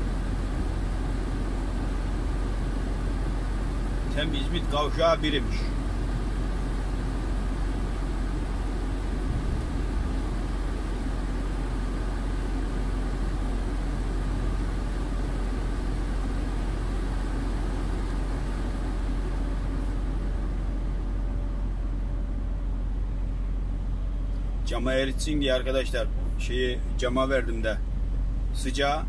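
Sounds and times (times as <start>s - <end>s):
heavy vehicle engine drone: 0.0s - 29.0s.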